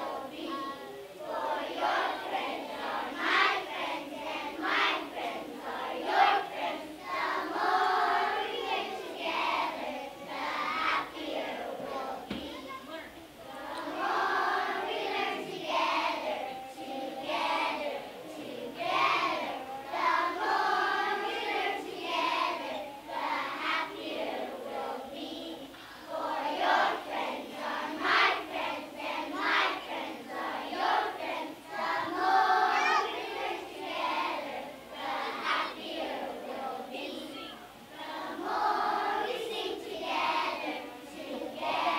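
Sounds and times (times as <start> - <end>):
children's choir singing: 0.0 - 41.9.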